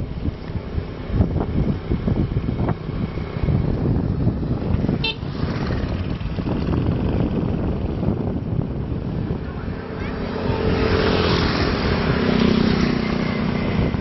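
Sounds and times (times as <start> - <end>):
road traffic noise: 0.0 - 14.0
wind buffeting microphone: 0.0 - 14.0
motorbike engine passing: 1.1 - 14.0.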